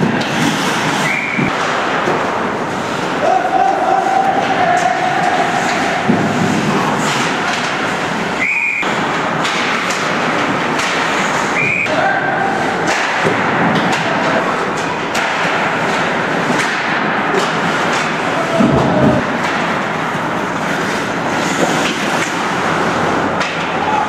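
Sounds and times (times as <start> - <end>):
clacks of sticks and puck: 0.0 - 24.0
skates scraping on ice: 0.0 - 24.0.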